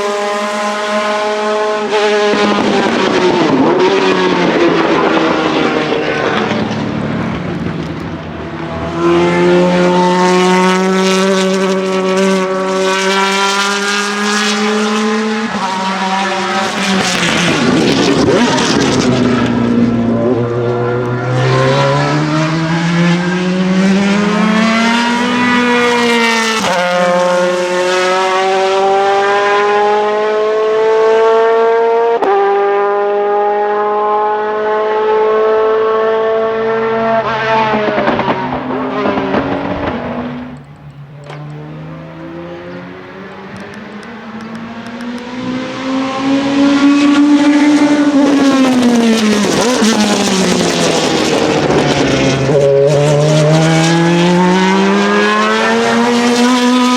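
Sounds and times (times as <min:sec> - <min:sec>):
race car engine accelerating: 0:00.0 - 0:56.9.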